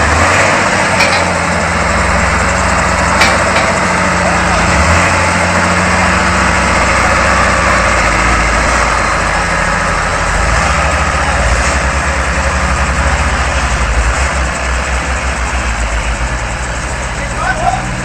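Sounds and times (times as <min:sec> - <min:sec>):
road and traffic noise: 0:00.0 - 0:18.0
vehicle engine running: 0:00.0 - 0:18.0
low regular throbbing: 0:00.1 - 0:18.0.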